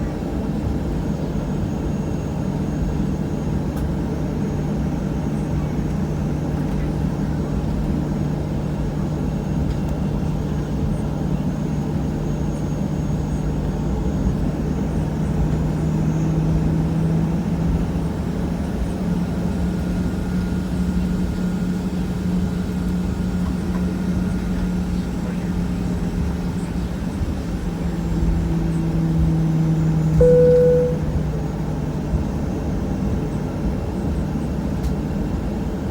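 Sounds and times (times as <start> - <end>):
jet engines droning in cabin: 0.0 - 35.9.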